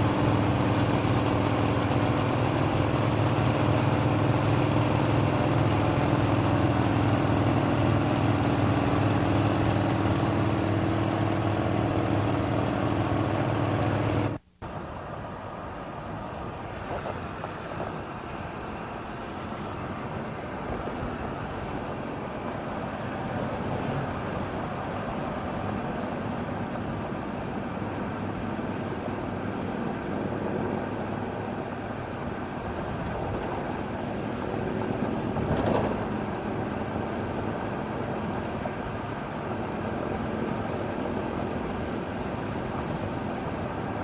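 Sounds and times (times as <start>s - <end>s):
motorcycles: 0.0s - 14.4s, 15.6s - 44.0s
highway traffic rushing: 0.0s - 44.0s.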